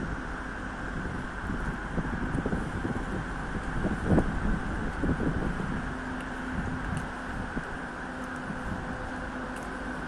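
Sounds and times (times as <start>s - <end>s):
road traffic rumble: 0.0s - 10.0s
wind buffeting microphone: 0.0s - 10.0s.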